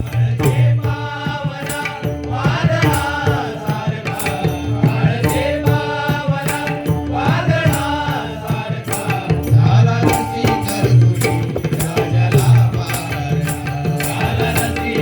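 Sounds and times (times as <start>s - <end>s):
drums playing steady rhythm: 0.0s - 15.0s.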